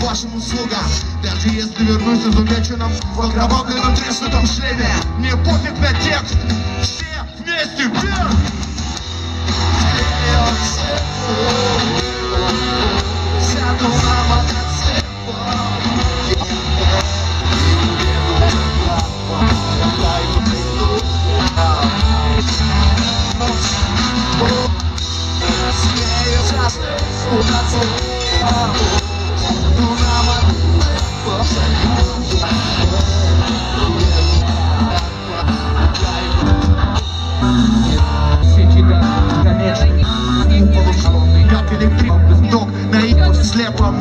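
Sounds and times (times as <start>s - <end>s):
electric guitar: 0.0s - 44.0s
heavy bass: 0.0s - 44.0s
instrumental rock music: 0.0s - 44.0s
steady drum beat: 0.0s - 44.0s.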